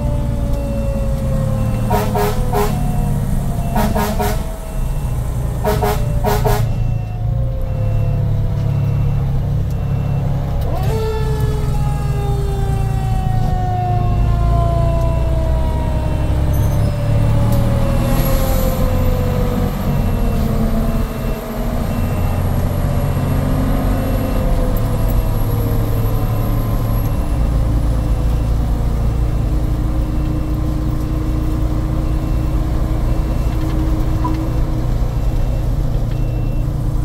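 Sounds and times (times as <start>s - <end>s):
siren winding down: 0.0s - 36.6s
diesel engine and road noise: 0.0s - 37.0s.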